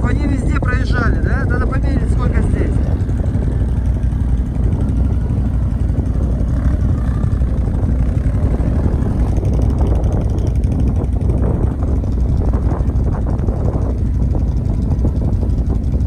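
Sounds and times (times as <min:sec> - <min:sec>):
atv engine rumbling: 0:00.0 - 0:16.0.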